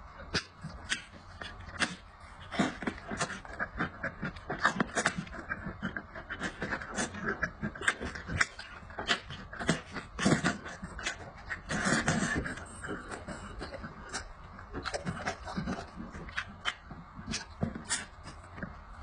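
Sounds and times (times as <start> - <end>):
man chewing with wet smacks: 0.0 - 19.0.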